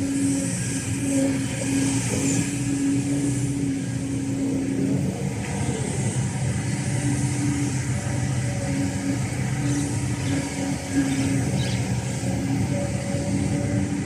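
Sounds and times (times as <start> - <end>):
excavator diesel engine running: 0.0 - 14.0
high steady hydraulic pump note: 0.0 - 14.0.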